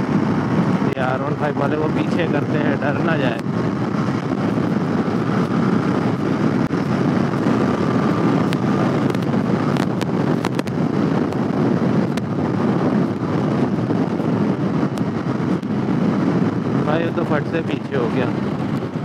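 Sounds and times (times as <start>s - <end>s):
motorcycle engine and road noise: 0.0s - 19.0s
wind rushing over microphone: 0.0s - 19.0s.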